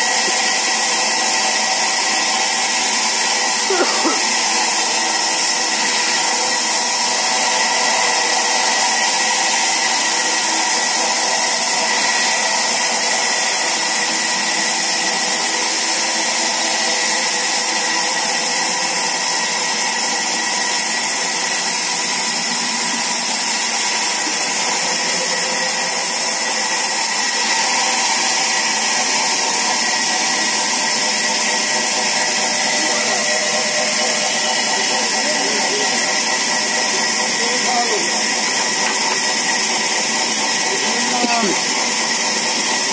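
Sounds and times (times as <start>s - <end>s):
sawmill saw whine: 0.0s - 42.9s.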